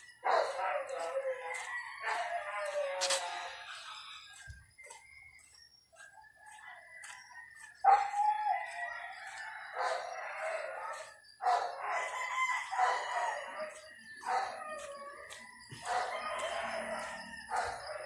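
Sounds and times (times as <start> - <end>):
rooster crowing: 0.0 - 4.4, 6.2 - 18.0.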